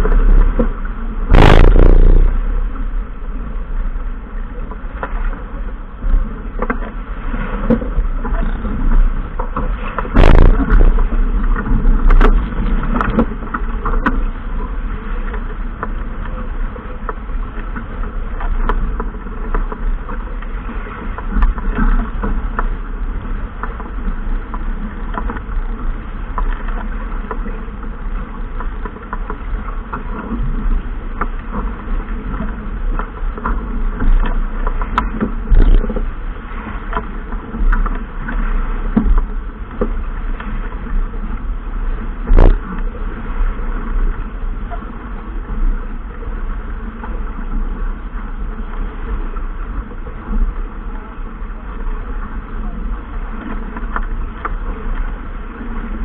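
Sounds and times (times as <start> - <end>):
wind buffeting microphone: 0.0 - 27.8, 29.4 - 56.0
water noise from boat: 0.0 - 56.0.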